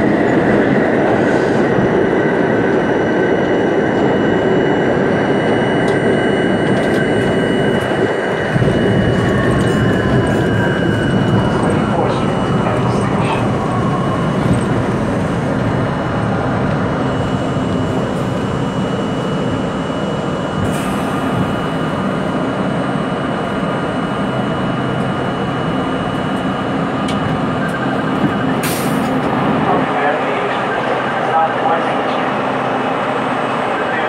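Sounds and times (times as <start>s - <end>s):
high whine: 0.0s - 34.0s
subway train rumbling on rails: 0.0s - 34.0s.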